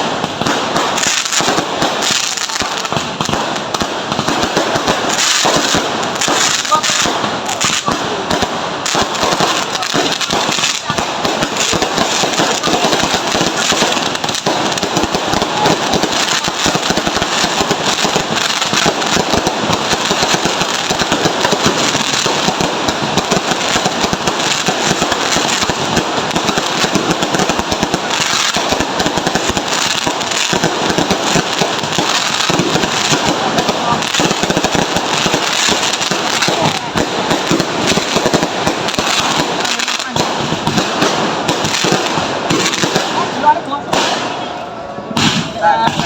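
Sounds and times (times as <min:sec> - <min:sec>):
fireworks crackling: 0:00.0 - 0:46.0.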